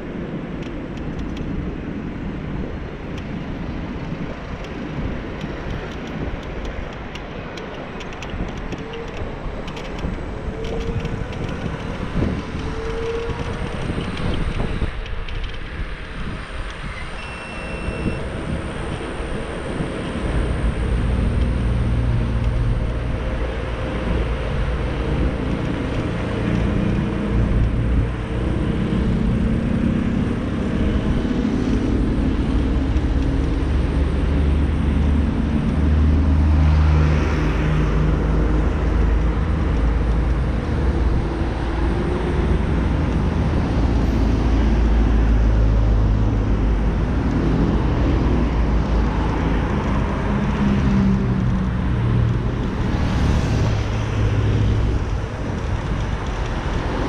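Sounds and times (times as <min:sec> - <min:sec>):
car traffic: 0:00.0 - 0:57.0
electric scooter riding rumble: 0:00.0 - 0:57.0.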